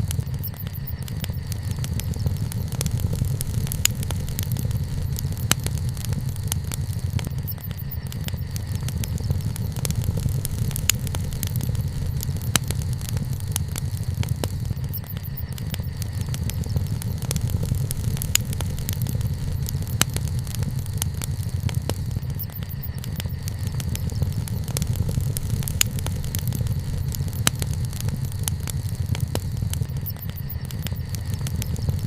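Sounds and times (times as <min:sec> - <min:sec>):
campfire crackling and popping: 0:00.0 - 0:32.0
fire low rumble: 0:00.0 - 0:32.0.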